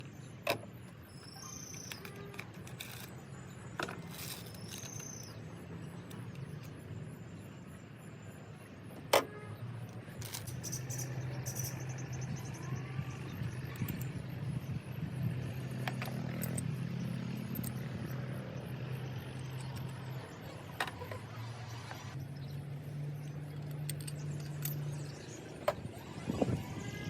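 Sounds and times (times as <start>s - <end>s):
metal tools clinking on engine: 0.3s - 7.0s, 9.1s - 11.8s, 13.4s - 27.0s.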